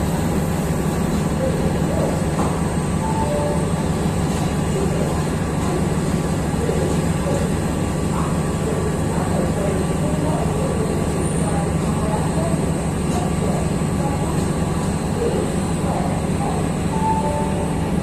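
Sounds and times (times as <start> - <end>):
diesel generator drone: 0.0 - 18.0.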